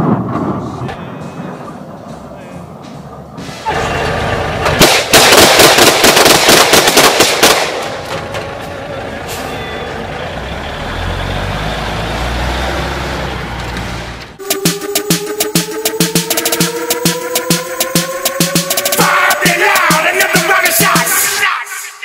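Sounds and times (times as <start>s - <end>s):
truck engine rattling: 0.0s - 20.9s.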